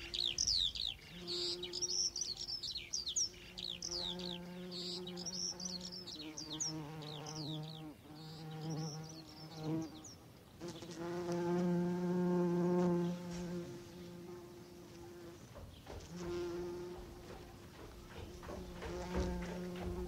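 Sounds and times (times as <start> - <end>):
fly buzzing: 0.0 - 2.1, 3.6 - 20.0
birds chirping: 0.0 - 11.8, 12.6 - 20.0.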